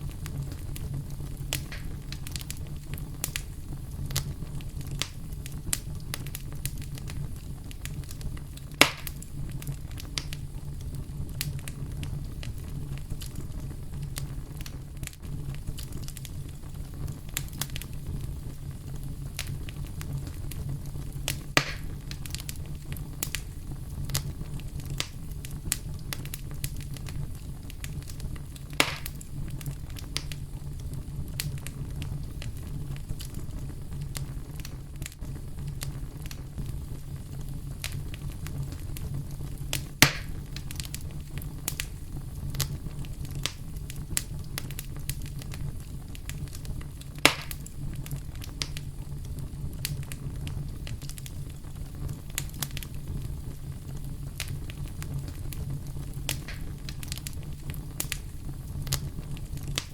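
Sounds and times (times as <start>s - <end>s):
campfire crackling: 0.0s - 59.9s
loud fire pops: 0.0s - 59.9s
low brown-noise rumble: 0.0s - 59.9s.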